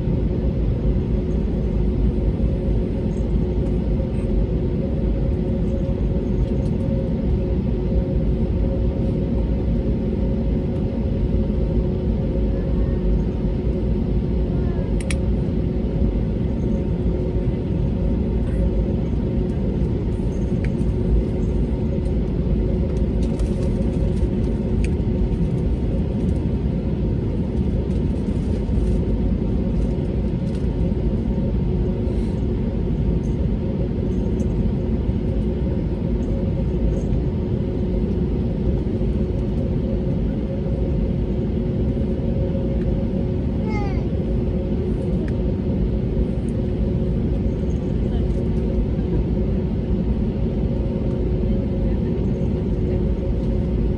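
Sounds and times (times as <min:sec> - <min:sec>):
aircraft cabin rumble: 0:00.0 - 0:53.9.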